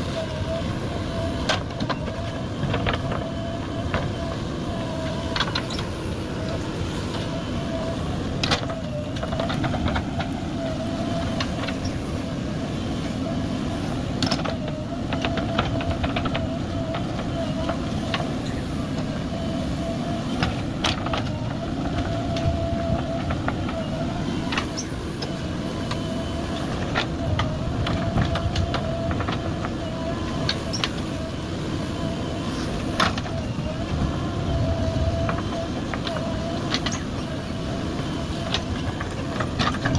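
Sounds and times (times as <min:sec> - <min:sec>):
diesel engine running: 0:00.0 - 0:39.9
wavering whine: 0:00.0 - 0:39.9.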